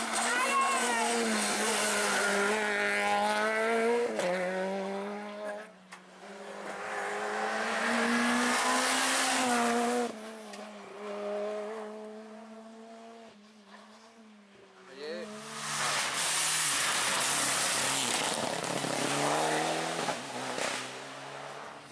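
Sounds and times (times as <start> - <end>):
rally car engine at high revs: 0.0 - 21.9.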